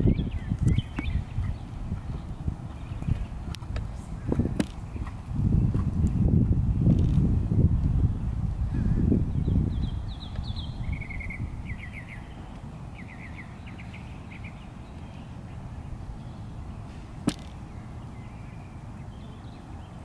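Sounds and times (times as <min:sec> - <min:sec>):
small birds chirping: 0:00.0 - 0:07.2, 0:08.0 - 0:20.0
steady low rumble: 0:00.0 - 0:19.6.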